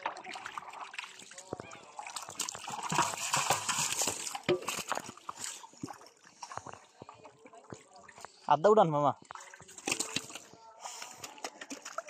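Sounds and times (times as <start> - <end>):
mud squelching and sloshing: 0.0 - 8.5, 9.2 - 12.0.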